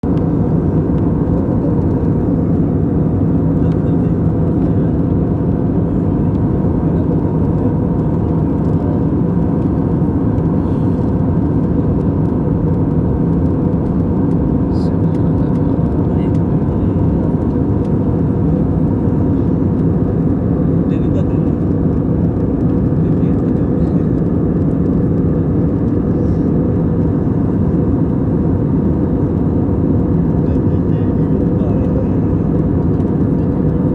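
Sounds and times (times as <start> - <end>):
airliner cabin engine and airflow rush: 0.0 - 33.9.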